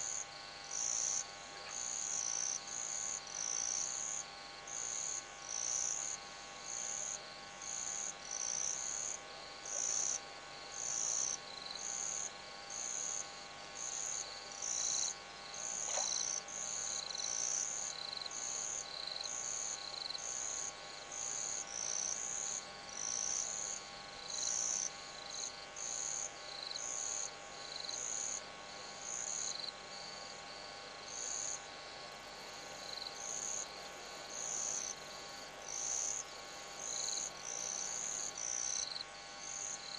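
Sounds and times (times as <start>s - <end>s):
cricket chirping: 0.0s - 39.9s
faint steady hum: 0.0s - 39.9s.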